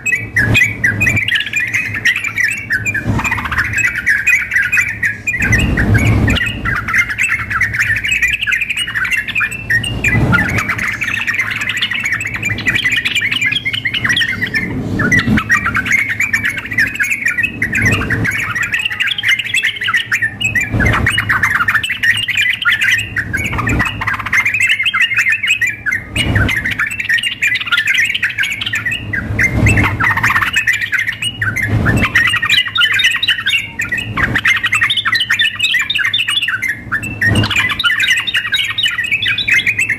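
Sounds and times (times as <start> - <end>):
bulbuls chattering and singing: 0.0 - 39.9.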